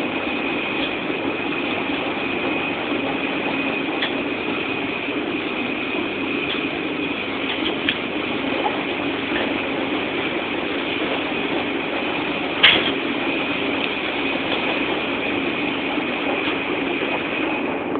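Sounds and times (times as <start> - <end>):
washing machine running: 0.0 - 17.9.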